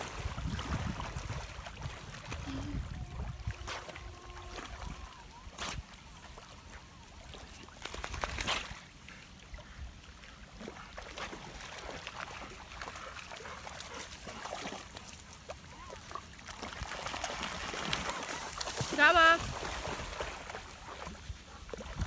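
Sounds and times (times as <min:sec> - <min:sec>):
dogs splashing in water: 0:00.0 - 0:22.0.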